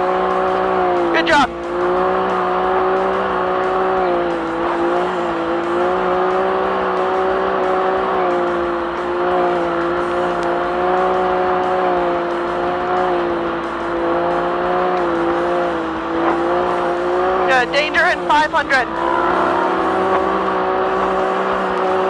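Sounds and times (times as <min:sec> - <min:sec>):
engine running hard: 0:00.0 - 0:22.0.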